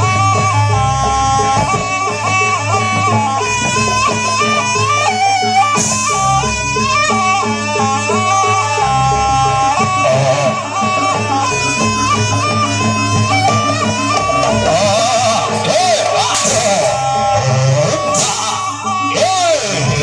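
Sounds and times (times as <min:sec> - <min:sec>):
drum and gong percussion: 0:00.0 - 0:20.0
shrill double-reed trumpet melody: 0:00.0 - 0:20.0.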